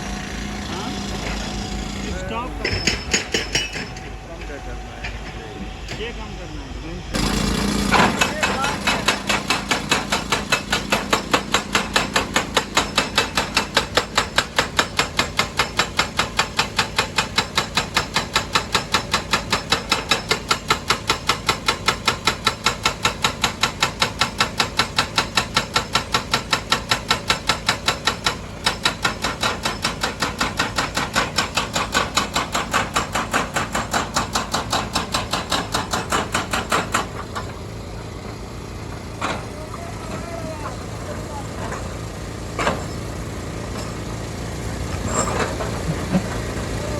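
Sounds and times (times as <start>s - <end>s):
hydraulic breaker hammering stone: 0.0s - 4.1s, 7.2s - 46.9s.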